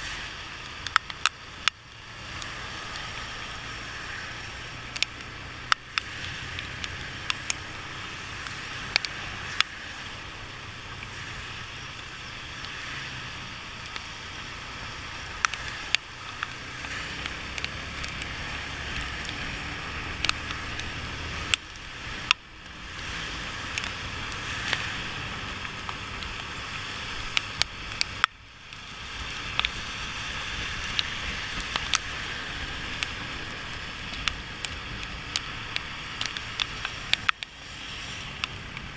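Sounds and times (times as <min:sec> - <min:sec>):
motorcycle road and wind noise: 0:00.0 - 0:38.9
raindrops ticking on microphone: 0:00.0 - 0:38.9.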